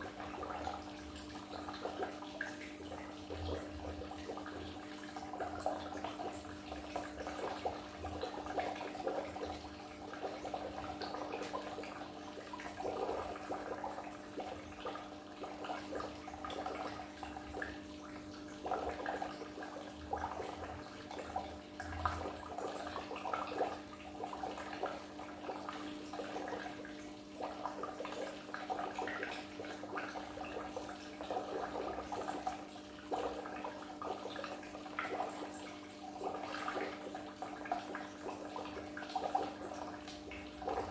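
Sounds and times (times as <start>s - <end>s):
aquarium water splashing and bubbling: 0.0s - 40.9s.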